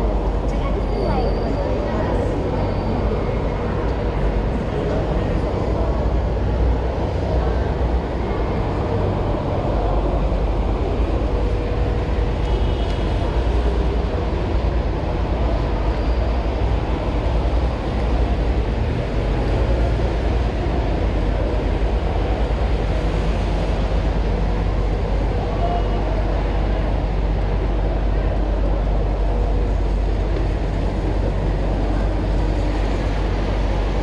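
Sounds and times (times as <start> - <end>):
city street traffic rumble: 0.0 - 34.0.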